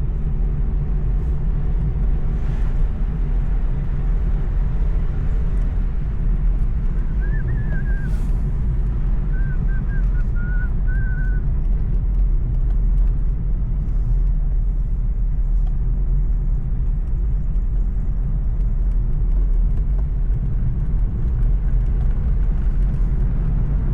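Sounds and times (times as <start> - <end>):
vehicle rumbling: 0.0 - 23.9.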